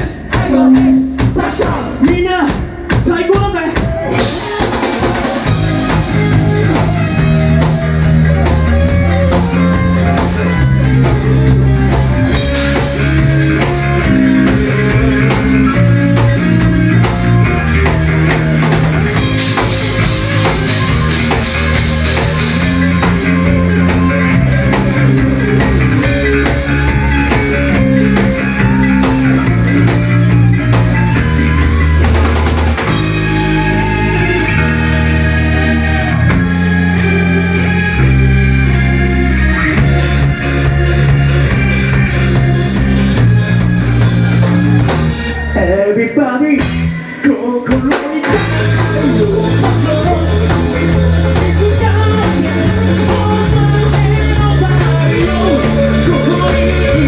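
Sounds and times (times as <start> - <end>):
drum kit: 0.0 - 57.0
electric bass: 0.0 - 57.0
electric guitar: 0.0 - 57.0.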